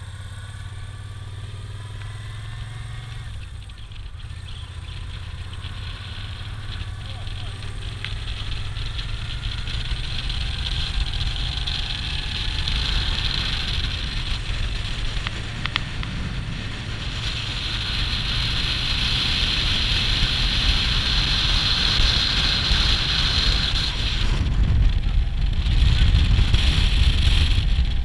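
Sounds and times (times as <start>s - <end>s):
motorcycle engine rumble: 0.0s - 28.0s
rushing wind: 1.7s - 28.0s.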